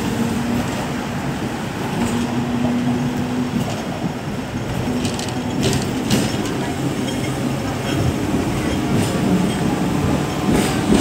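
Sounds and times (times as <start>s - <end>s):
tram rumbling and rattling: 0.0s - 11.0s.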